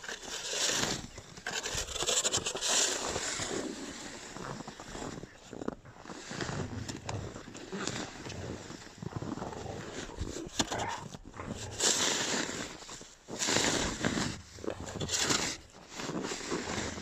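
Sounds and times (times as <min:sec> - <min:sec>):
quiet scuffling: 0:00.3 - 0:17.0.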